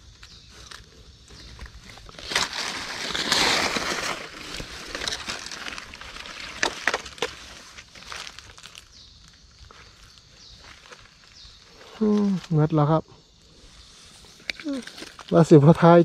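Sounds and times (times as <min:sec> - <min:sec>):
twigs crackling and snapping: 0:00.0 - 0:12.6, 0:14.4 - 0:15.8.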